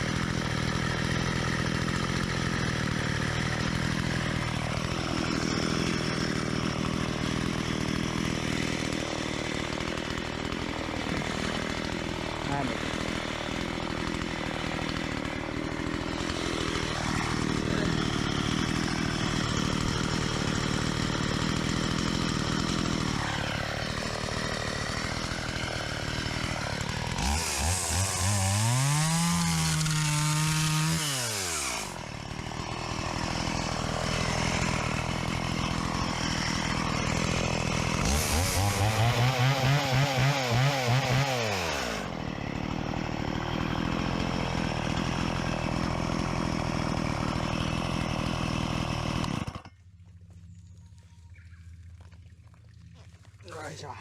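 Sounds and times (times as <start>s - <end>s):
chainsaw engine idling and revving: 0.0s - 52.1s, 53.3s - 54.0s.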